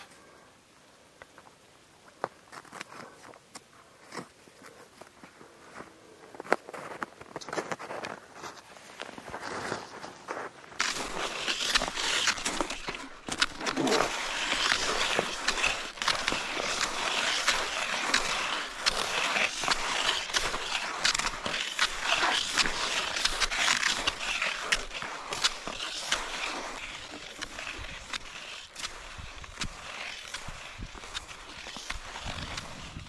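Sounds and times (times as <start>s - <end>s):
skis swishing over snow: 5.7s - 33.0s
ski pole crunches: 6.5s - 33.0s.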